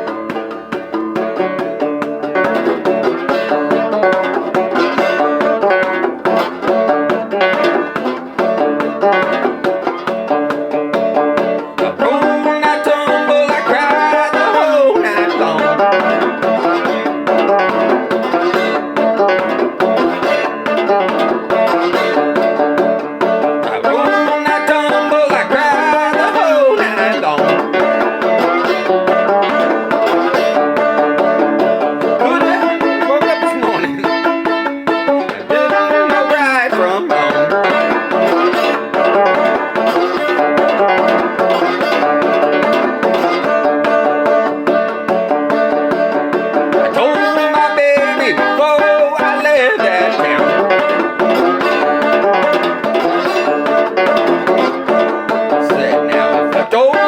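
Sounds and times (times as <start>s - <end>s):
banjo head percussive snap: 0.0s - 57.0s
banjo-guitar blues riff with slide: 0.0s - 57.0s.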